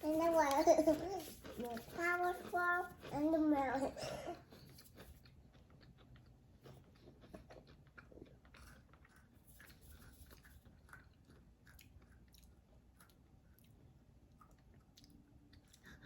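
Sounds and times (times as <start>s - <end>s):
chewing crunchy cookie: 0.0s - 16.0s.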